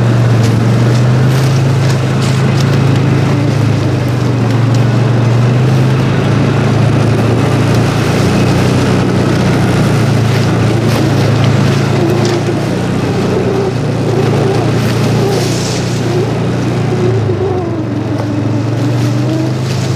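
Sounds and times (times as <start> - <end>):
vehicle engine humming: 0.0 - 19.9.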